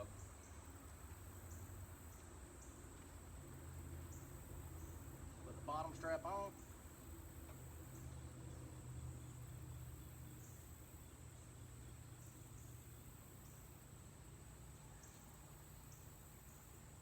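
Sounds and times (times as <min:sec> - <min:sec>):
high-pitched insect hum: 0:00.0 - 0:17.0.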